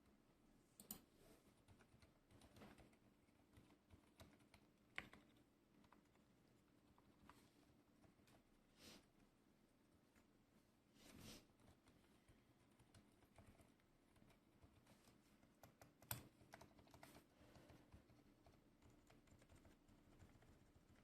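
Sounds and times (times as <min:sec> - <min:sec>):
quiet keyboard typing: 0:00.8 - 0:09.3, 0:11.4 - 0:21.0.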